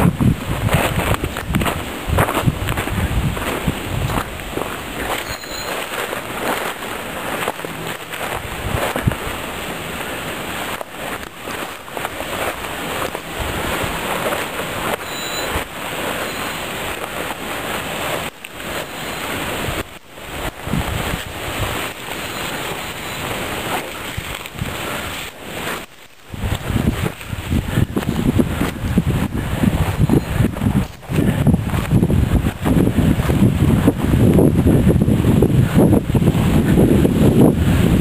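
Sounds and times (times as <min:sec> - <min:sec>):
footsteps on rock ballast: 0:00.0 - 0:38.0.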